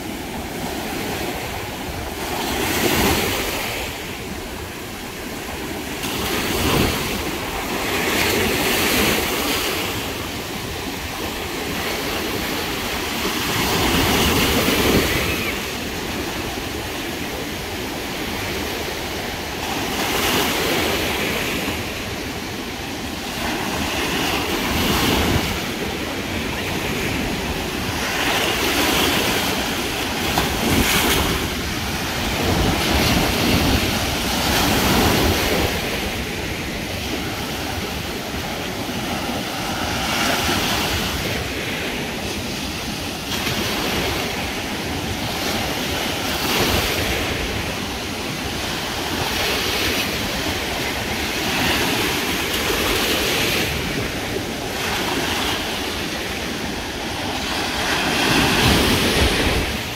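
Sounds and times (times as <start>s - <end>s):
surf waves breaking on beach: 0.0s - 59.9s.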